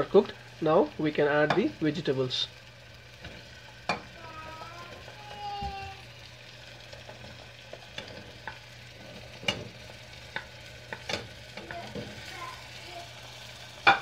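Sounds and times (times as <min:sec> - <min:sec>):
faint sizzle of frying: 0:00.0 - 0:14.0.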